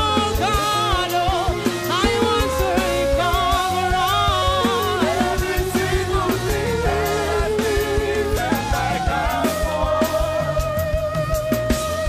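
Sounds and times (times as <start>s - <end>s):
drum kit beat: 0.0s - 12.0s
electronic keyboard: 0.0s - 12.0s.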